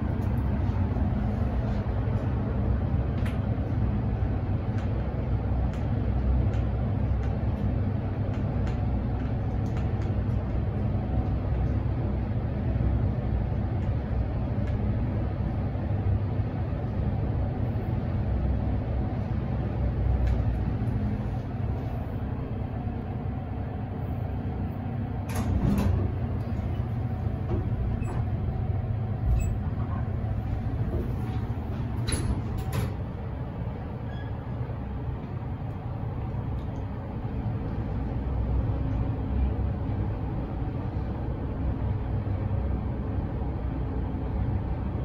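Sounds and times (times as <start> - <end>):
lift running low rumble: 0.0 - 45.0.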